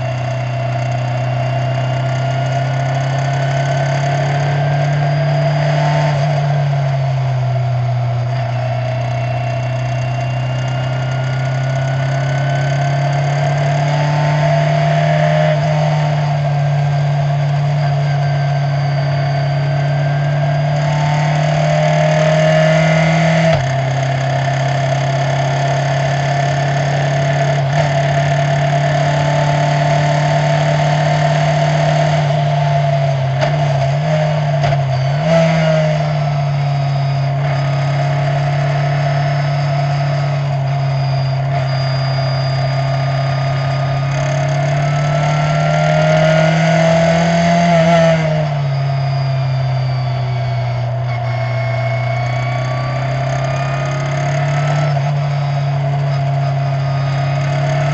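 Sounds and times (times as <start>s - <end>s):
racing car engine running hard: 0.0s - 57.9s.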